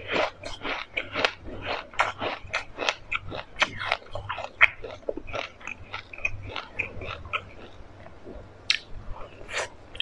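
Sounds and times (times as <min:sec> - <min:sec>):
chewing crunchy seeds: 0:00.0 - 0:10.0.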